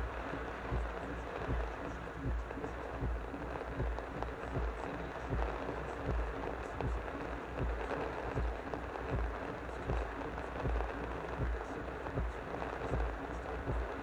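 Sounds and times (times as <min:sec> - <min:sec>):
heavy rain on car windshield: 0:00.0 - 0:14.0.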